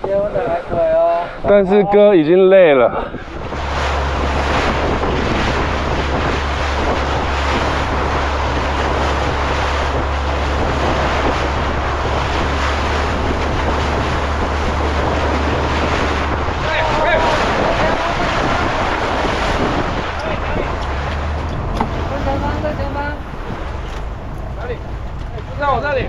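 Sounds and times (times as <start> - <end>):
water rushing along boat: 0.0 - 26.0
wind buffeting microphone: 0.0 - 26.0.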